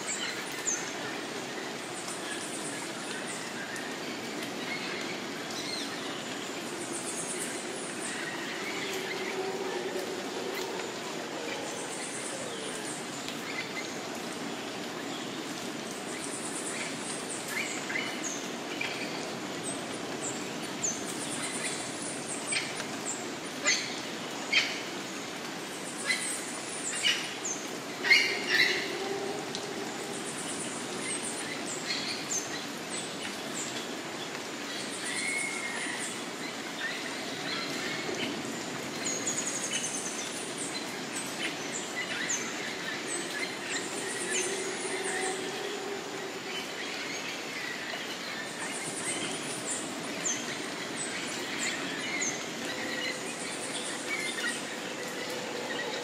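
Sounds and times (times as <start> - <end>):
forest birds calling: 0.0 - 56.0
steady background hiss: 0.0 - 56.0.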